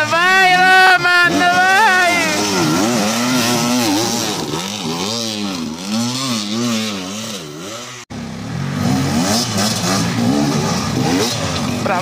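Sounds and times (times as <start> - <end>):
engine revving in blips: 1.3 - 12.0.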